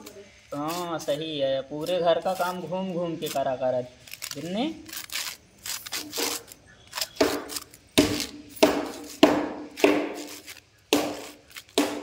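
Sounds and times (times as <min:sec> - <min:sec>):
straw scraping on concrete: 0:00.5 - 0:12.0.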